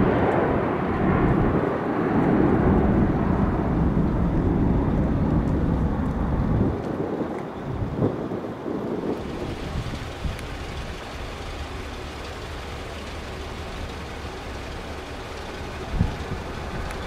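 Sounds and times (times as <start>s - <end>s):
distant jet engines rumbling: 0.0s - 17.0s
wind buffeting microphone: 0.0s - 17.0s.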